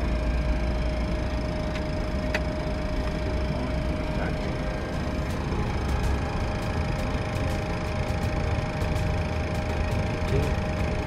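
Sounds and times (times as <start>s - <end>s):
engine whine: 0.0s - 11.0s.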